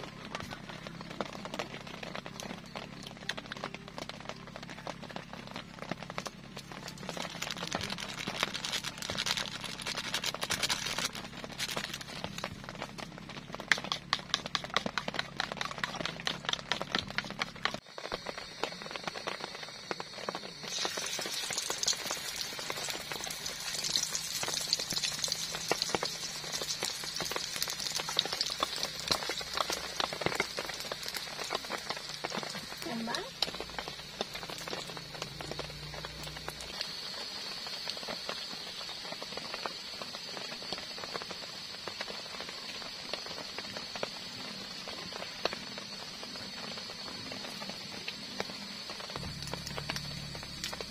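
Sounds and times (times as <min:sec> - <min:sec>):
egg sizzling in hot oil: 0:00.0 - 0:50.9.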